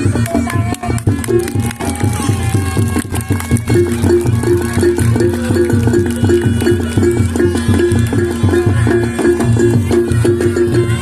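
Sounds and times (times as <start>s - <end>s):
drums and gong-chimes playing: 0.0s - 11.0s.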